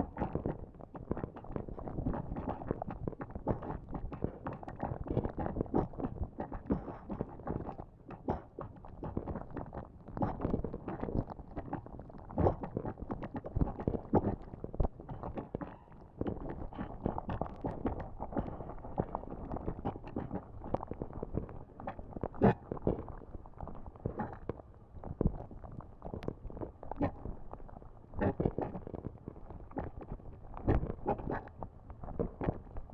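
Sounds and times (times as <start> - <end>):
lava rumbling and bubbling: 0.0 - 32.9.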